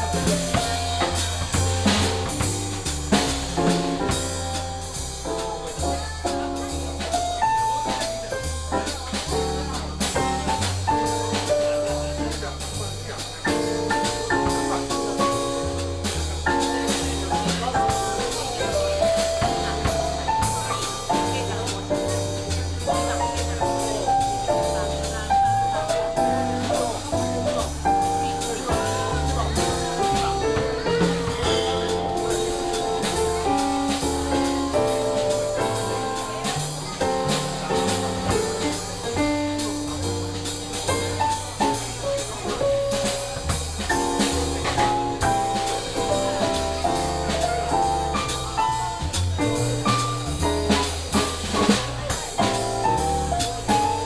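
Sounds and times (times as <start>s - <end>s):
bass notes: 0.0s - 54.0s
drum kit hits: 0.0s - 54.0s
jazz band playing: 0.0s - 54.0s.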